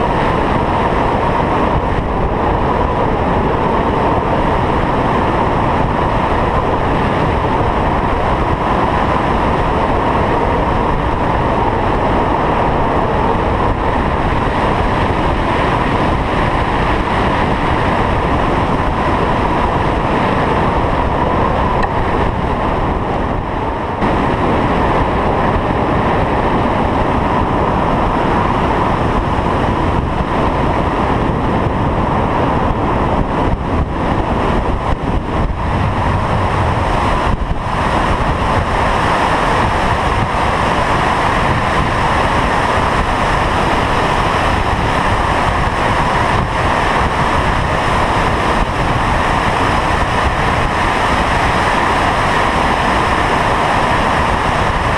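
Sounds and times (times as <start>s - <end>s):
airflow rushing over camera: 0.0s - 54.9s.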